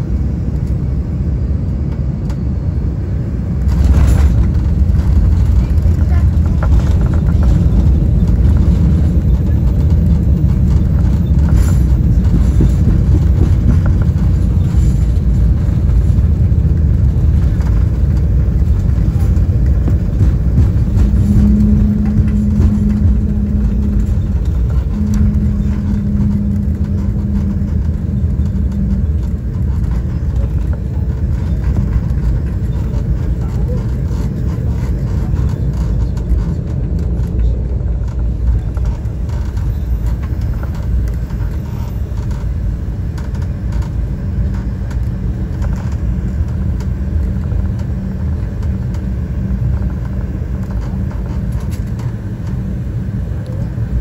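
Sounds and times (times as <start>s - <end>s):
airliner cabin engine rumble: 0.0s - 54.0s
steady low hum: 0.0s - 54.0s.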